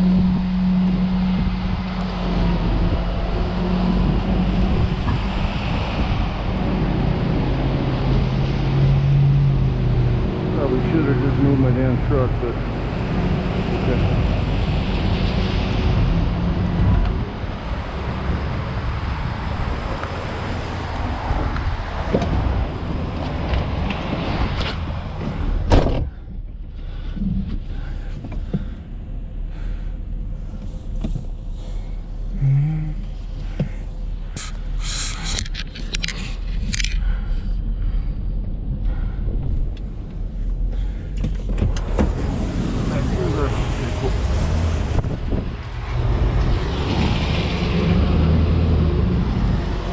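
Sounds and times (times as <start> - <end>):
vehicle and road noise: 0.0 - 49.9.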